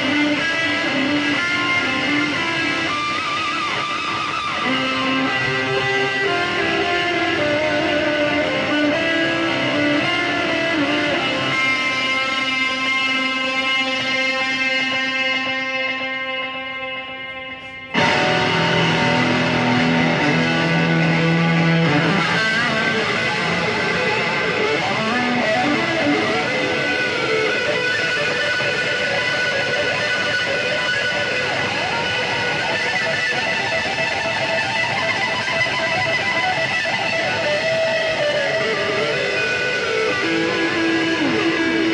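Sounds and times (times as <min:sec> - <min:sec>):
electric guitar melody: 0:00.0 - 0:41.9.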